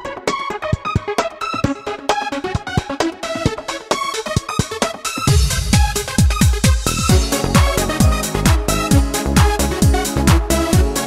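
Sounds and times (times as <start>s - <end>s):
electronic dance music: 0.1s - 11.0s.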